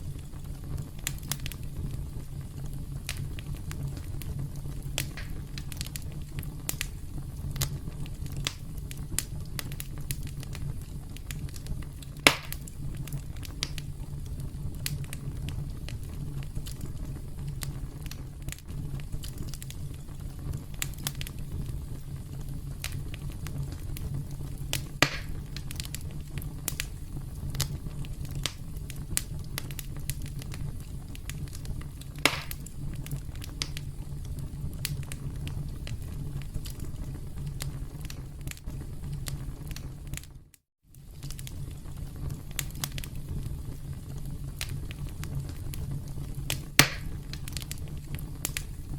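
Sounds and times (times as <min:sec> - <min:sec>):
campfire crackling: 0:00.0 - 0:48.9
loud fire pops: 0:00.0 - 0:48.9.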